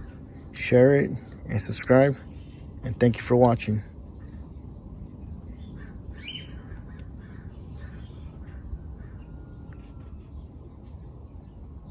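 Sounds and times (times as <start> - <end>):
birds calling: 0.0 - 11.9
steady low rumble: 0.0 - 11.9.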